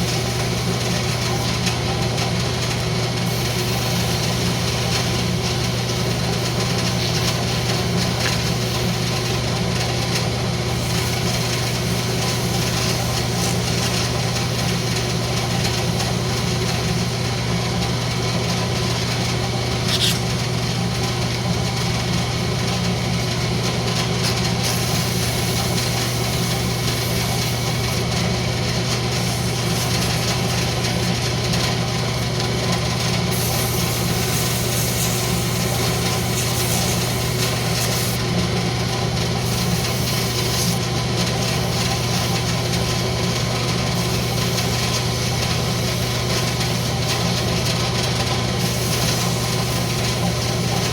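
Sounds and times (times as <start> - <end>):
wood lathe motor hum: 0.0 - 50.9.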